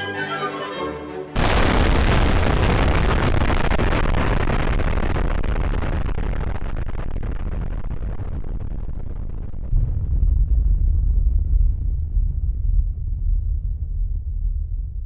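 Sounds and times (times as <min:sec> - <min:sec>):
bomb blast rumbling roar: 0:01.4 - 0:15.0.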